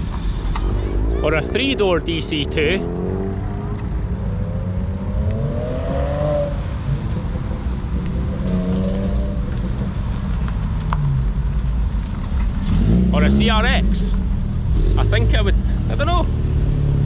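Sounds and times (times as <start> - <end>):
car engine revving up: 0.0 - 10.2, 12.5 - 17.0
car engines running: 0.0 - 17.0.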